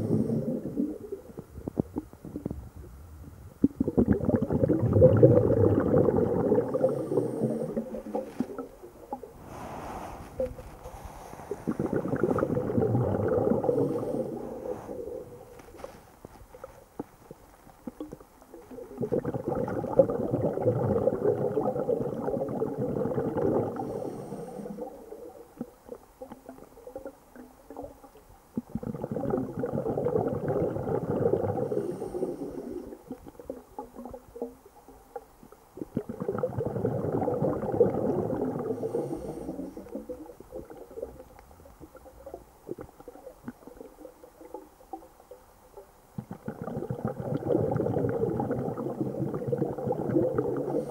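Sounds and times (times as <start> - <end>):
exhaled bubbles underwater: 0.0 - 15.6, 17.2 - 50.9.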